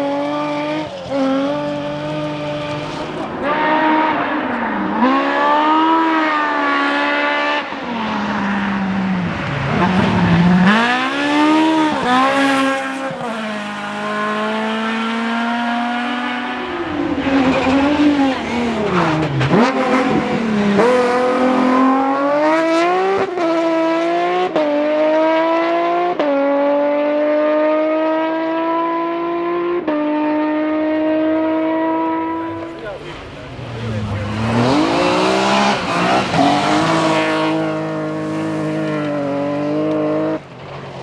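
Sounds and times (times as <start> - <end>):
engine upshifts: 0.0 - 41.0
rally car engine revving: 0.0 - 41.0.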